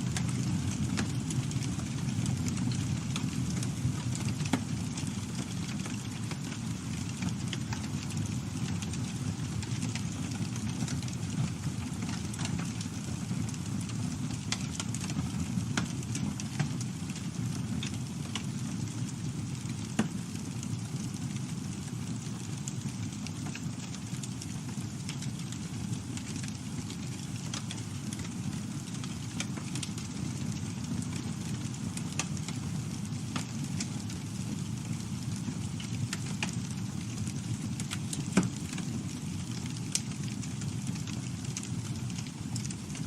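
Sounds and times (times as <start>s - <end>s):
wood crackling and popping: 0.0s - 43.0s
campfire rumbling: 0.1s - 43.0s.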